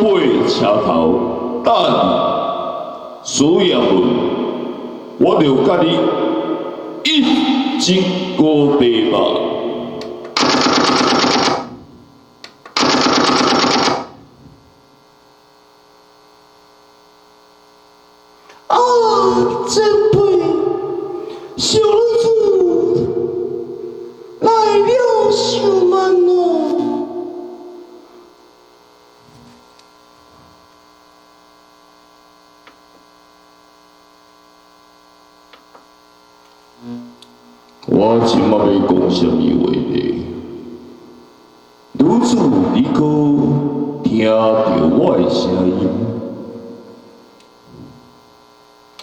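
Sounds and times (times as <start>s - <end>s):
faint electrical hum: 0.0s - 49.0s.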